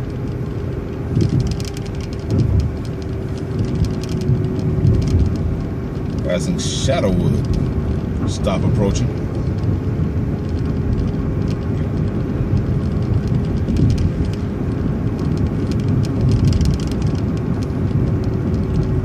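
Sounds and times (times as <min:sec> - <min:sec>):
bus engine and road rumble: 0:00.0 - 0:19.0
faint constant whine: 0:00.0 - 0:19.0
light rattles: 0:00.0 - 0:19.0.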